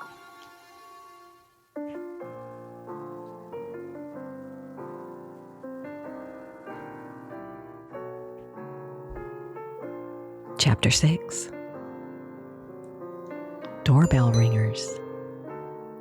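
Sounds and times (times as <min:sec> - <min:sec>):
solo piano chords: 0:01.8 - 0:10.6, 0:11.5 - 0:16.0.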